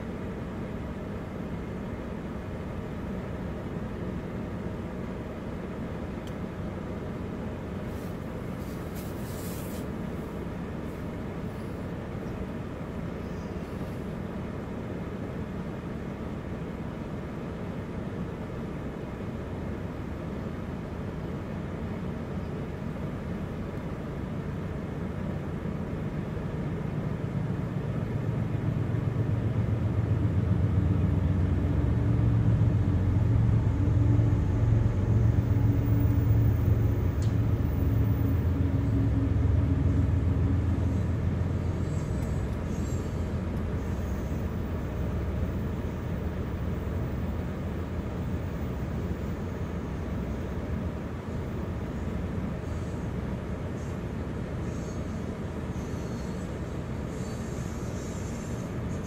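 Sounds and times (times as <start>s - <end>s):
diesel locomotives droning: 0.0s - 59.0s
hopper cars rumbling on rails: 0.0s - 59.0s.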